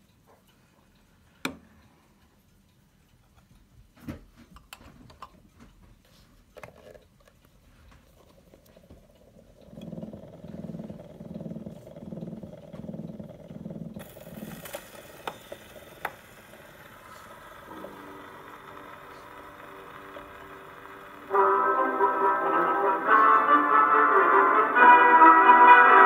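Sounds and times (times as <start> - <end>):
record needle hiss and rumble: 0.0 - 26.0.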